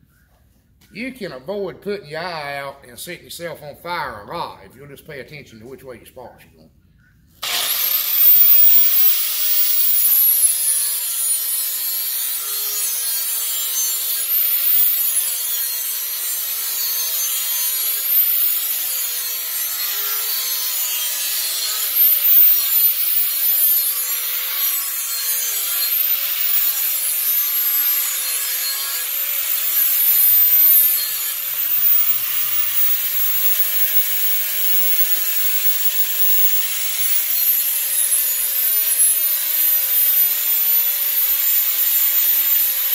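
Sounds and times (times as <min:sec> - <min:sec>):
angle grinder grinding steel: 0:07.4 - 0:42.9.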